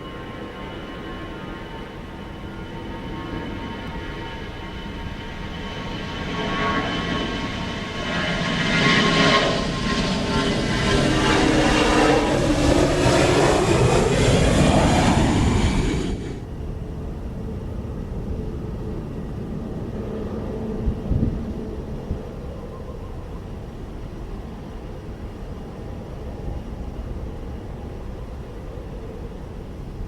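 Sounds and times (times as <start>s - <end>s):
jet airliner passing: 0.0s - 30.0s.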